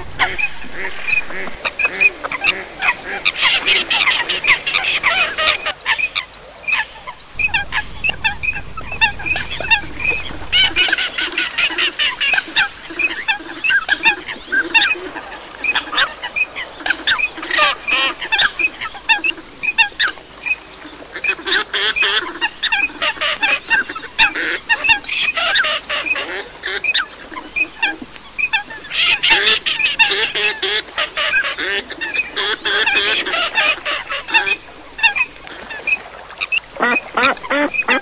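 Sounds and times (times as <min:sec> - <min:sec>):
waterfowl calling: 0:00.0 - 0:38.0.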